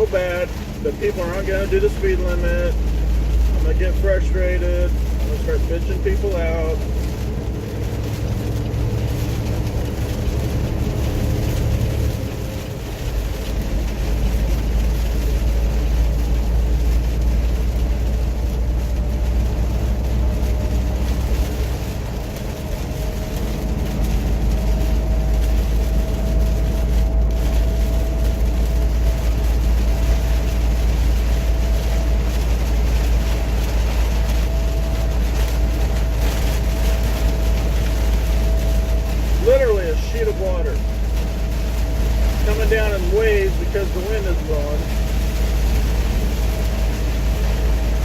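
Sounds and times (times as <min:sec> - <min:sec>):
truck engine and road drone: 0:00.0 - 0:48.0
tyres on wet road: 0:00.0 - 0:48.0.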